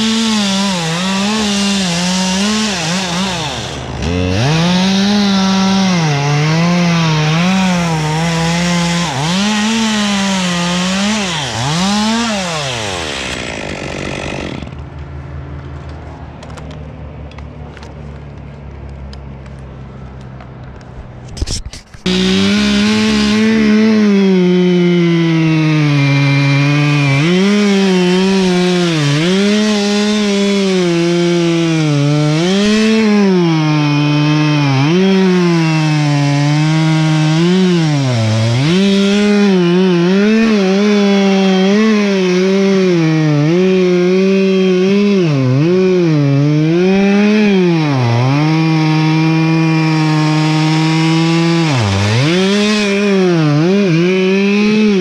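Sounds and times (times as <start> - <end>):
chainsaw cutting wood: 0.0 - 15.1, 21.3 - 55.0.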